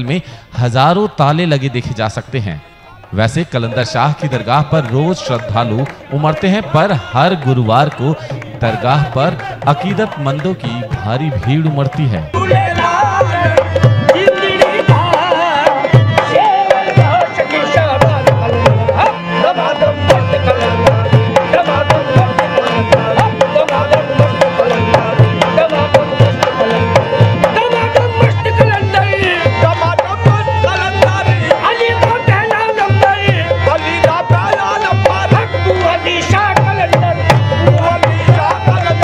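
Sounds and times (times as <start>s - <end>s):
tabla playing steady rhythm: 1.0s - 39.0s.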